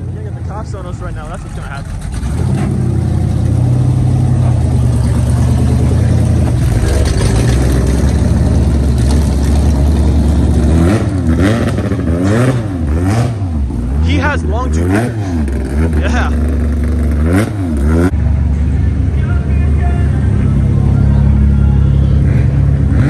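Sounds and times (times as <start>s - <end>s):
car engine revving: 0.0s - 19.2s, 19.8s - 23.0s.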